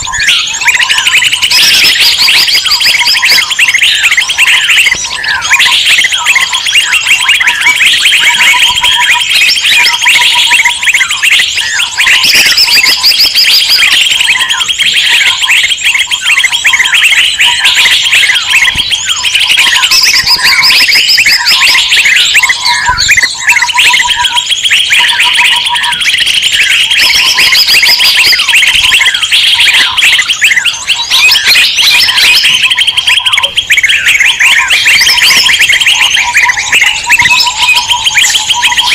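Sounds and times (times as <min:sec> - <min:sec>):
low repeated bird note: 0:00.0 - 0:38.9
many small birds chirping: 0:00.0 - 0:38.9.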